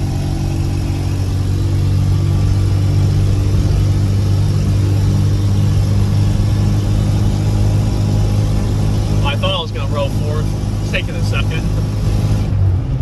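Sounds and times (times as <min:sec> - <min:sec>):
road and tyre noise: 0:00.0 - 0:13.0
truck engine running: 0:00.0 - 0:13.0.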